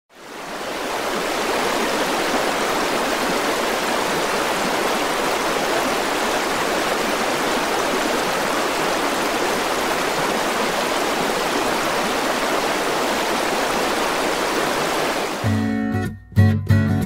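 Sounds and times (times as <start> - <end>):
stream running over stones: 0.1 - 15.5.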